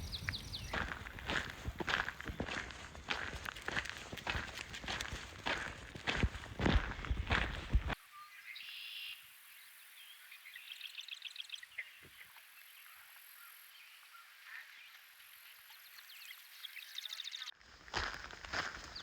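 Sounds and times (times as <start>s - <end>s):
songbirds singing faintly: 0.0s - 17.6s.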